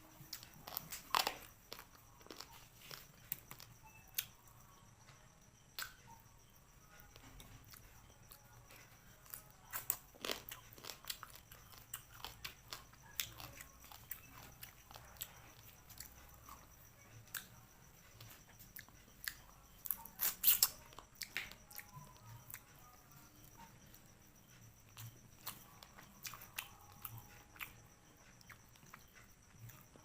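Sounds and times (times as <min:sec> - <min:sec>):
person chewing and crunching: 0:00.1 - 0:04.6, 0:05.7 - 0:30.0.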